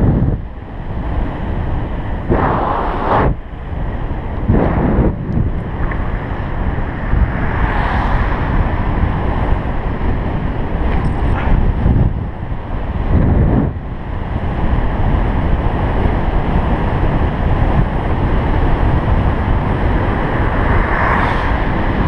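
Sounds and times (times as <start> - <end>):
steady low rumble: 0.0 - 22.0
wind rushing over microphone: 0.0 - 22.0.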